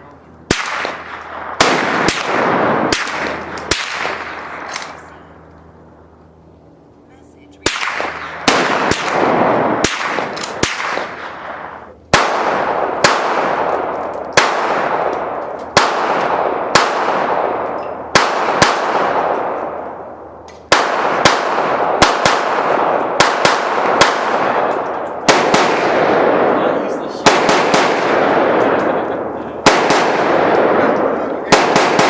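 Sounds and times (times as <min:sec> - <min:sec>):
gunshots echoing: 0:00.4 - 0:05.1, 0:07.6 - 0:32.0.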